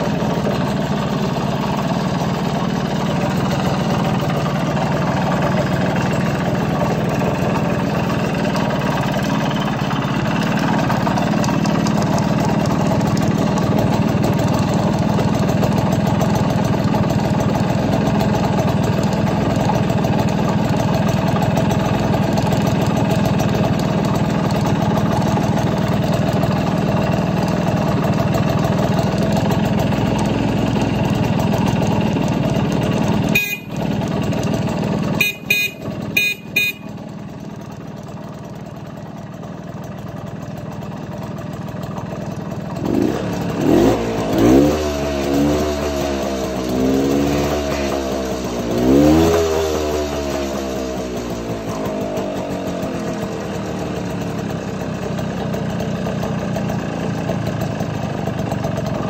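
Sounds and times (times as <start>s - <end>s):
two-stroke engine idling: 0.0s - 59.0s.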